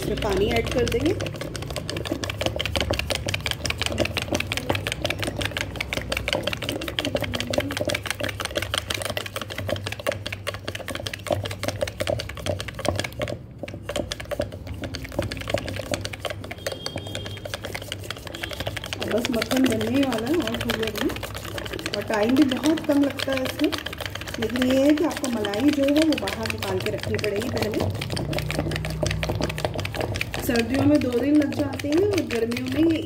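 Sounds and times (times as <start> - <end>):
cream splashing: 0.0 - 33.0
wooden churning stick clattering: 0.0 - 33.0.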